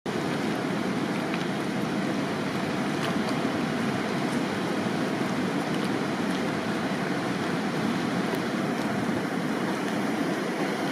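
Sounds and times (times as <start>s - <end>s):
river rushing through rapids: 0.1s - 10.9s.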